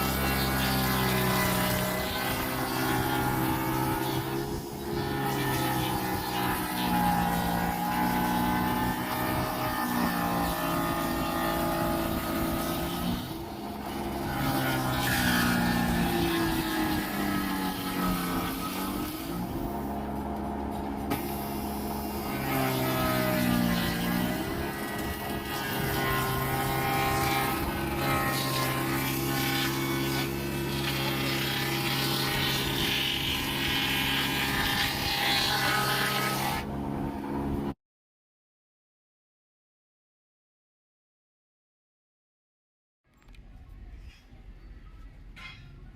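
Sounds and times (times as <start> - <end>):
power tool motor running: 0.0 - 37.7
wood being cut: 0.0 - 37.8.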